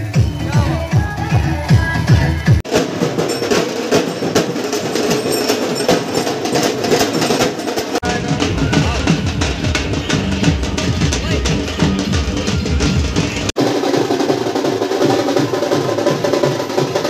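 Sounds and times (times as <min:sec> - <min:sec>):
music with fast dense drumming: 0:00.0 - 0:17.0.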